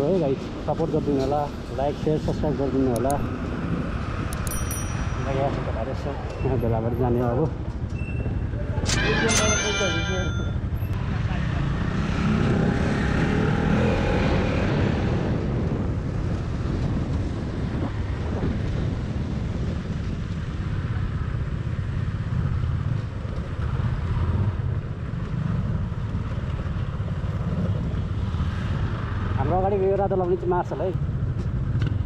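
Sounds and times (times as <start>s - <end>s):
wind rumble on microphone: 0.0s - 8.9s, 10.5s - 32.0s.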